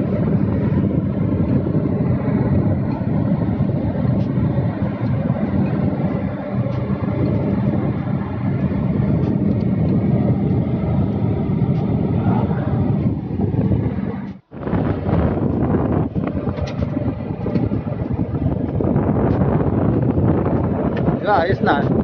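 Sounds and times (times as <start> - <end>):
low machinery drone: 0.0 - 22.0
wind noise on microphone: 0.0 - 22.0.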